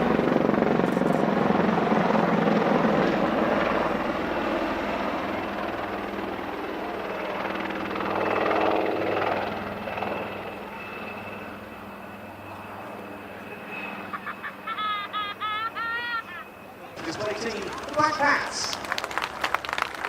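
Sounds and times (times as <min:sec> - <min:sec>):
helicopters flying past: 0:00.0 - 0:20.0.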